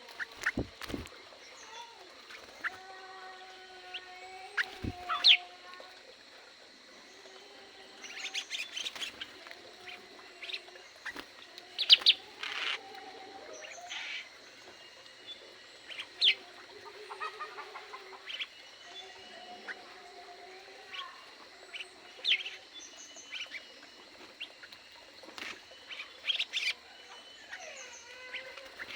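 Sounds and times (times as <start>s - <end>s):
birds chirping and calling: 0.0s - 2.8s, 3.8s - 5.5s, 8.0s - 14.4s, 15.8s - 28.9s.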